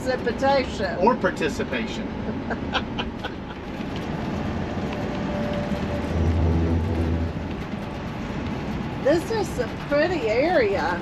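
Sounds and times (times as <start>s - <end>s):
engine and road noise rumble: 0.0s - 11.0s.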